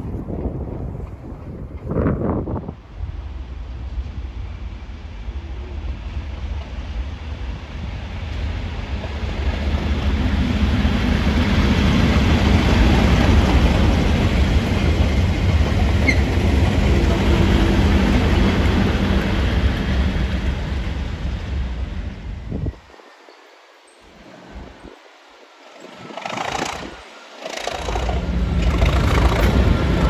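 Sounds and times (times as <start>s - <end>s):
diesel locomotive engine passing: 0.0s - 30.0s.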